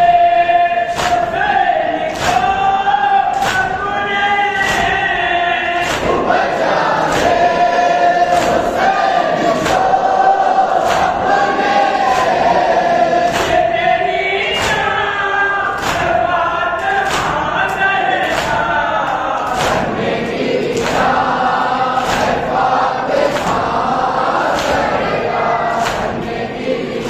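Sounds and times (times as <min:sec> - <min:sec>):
men singing in chorus: 0:00.0 - 0:27.0.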